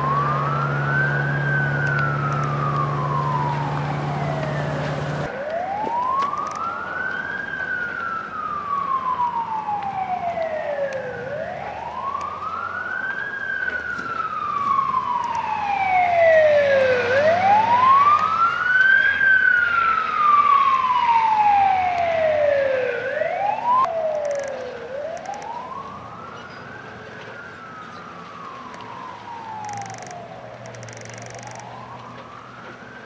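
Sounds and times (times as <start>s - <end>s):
emergency siren wailing: 0.0s - 33.0s.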